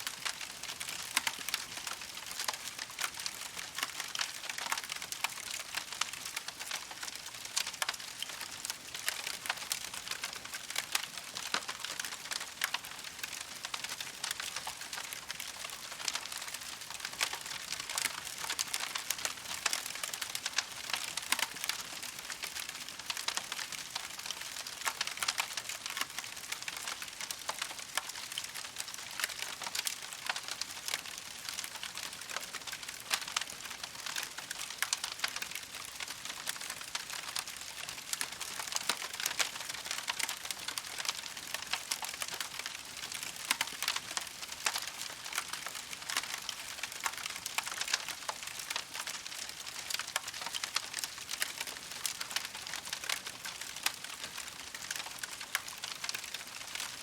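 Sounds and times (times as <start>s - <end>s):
campfire crackling: 0.2s - 57.0s.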